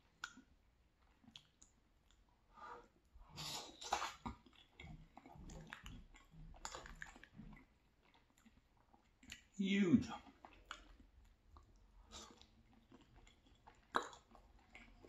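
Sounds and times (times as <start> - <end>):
person chewing pasta: 0.0 - 15.0.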